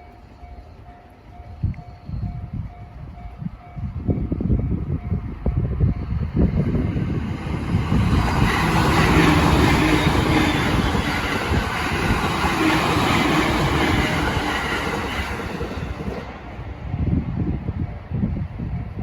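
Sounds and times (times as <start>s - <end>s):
train wheels rushing on rails: 1.3s - 19.0s.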